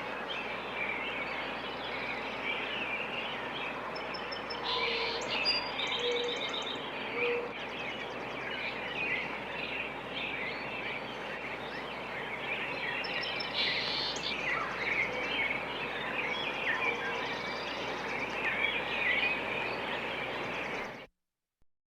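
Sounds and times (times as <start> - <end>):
small birds chirping: 0.0 - 21.1.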